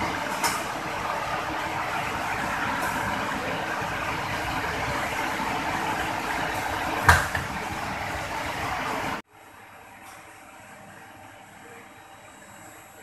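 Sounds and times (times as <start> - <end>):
machine whirring hum: 0.0 - 13.0.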